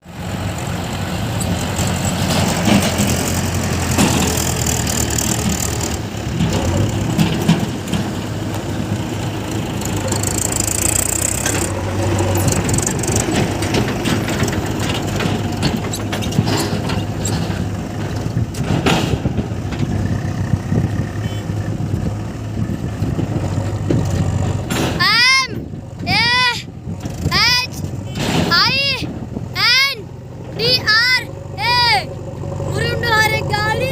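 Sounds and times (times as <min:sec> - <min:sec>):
diesel engine running: 0:00.0 - 0:33.9
knocks and clatter: 0:01.4 - 0:26.3, 0:26.9 - 0:29.4.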